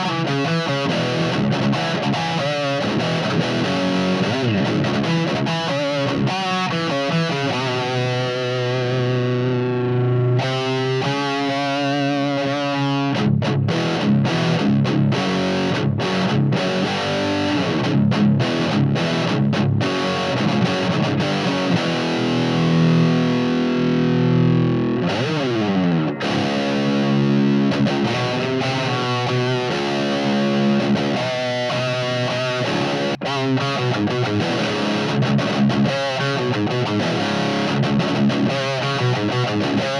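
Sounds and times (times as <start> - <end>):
distorted electric guitar riff: 0.0 - 39.9.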